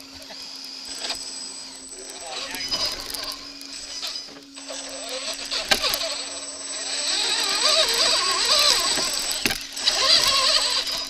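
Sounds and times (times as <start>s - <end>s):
gear clatter: 0.0s - 11.0s
rc car motor whine: 0.0s - 11.0s.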